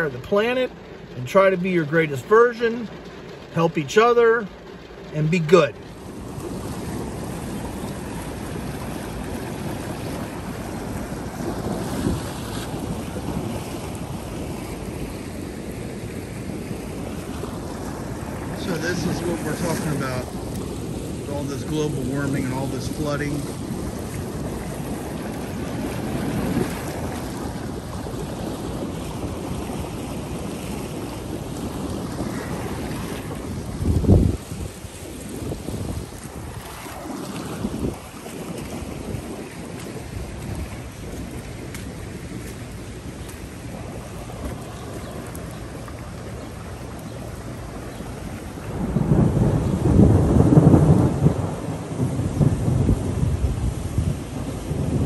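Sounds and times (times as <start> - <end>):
floodwater rushing and churning: 0.0 - 55.0
rain falling: 0.0 - 55.0
thunder rumbling: 0.0 - 55.0
wind buffeting microphone: 0.0 - 55.0.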